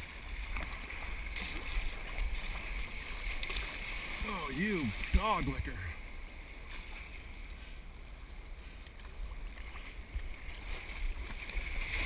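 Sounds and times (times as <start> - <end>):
water and surf: 0.0 - 12.0.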